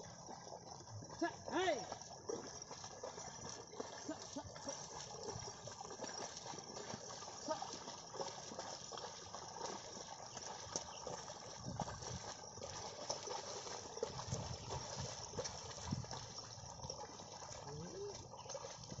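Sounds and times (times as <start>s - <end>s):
water and mud sloshing: 0.0s - 19.0s.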